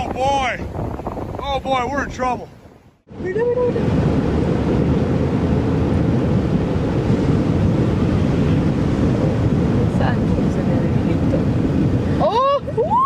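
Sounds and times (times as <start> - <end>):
rough surging sea: 0.0 - 13.0
strong wind buffeting microphone: 0.0 - 13.0.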